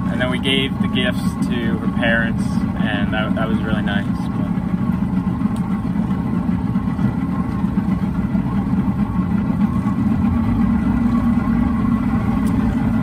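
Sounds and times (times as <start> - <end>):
outboard engine droning: 0.0 - 13.0.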